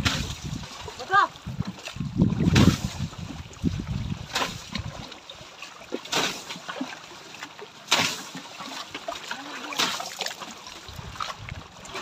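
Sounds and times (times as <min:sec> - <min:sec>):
water sloshing: 0:00.0 - 0:12.0
water splashing on tractor: 0:00.0 - 0:12.0.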